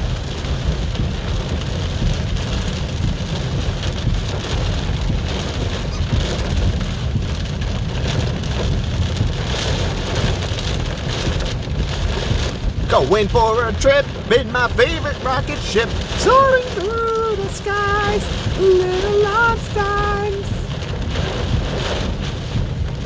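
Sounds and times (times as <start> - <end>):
car driving rumble: 0.0 - 23.0
hard rain on a car: 0.0 - 23.0.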